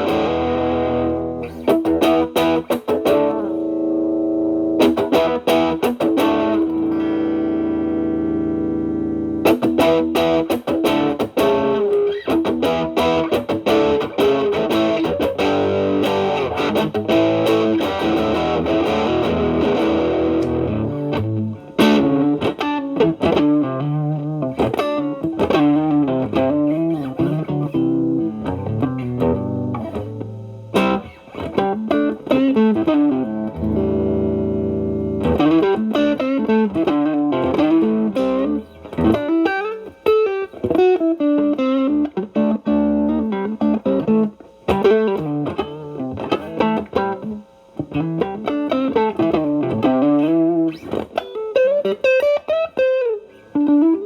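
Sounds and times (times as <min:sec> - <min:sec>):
electric guitar blues licks: 0:00.0 - 0:54.0.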